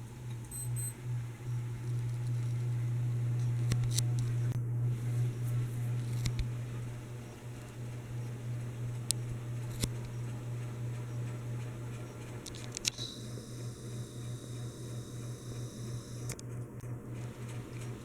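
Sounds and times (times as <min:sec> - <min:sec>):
ceiling fan motor humming: 0:00.0 - 0:18.0.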